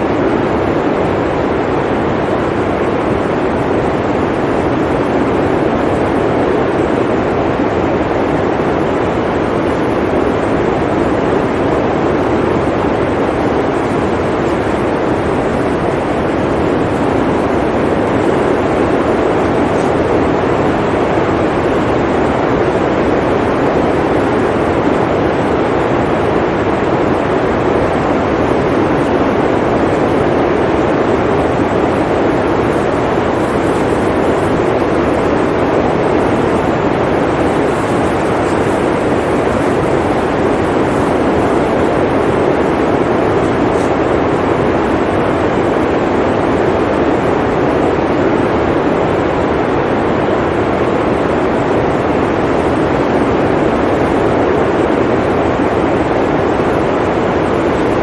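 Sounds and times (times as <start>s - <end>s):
blizzard wind blowing: 0.0s - 58.0s.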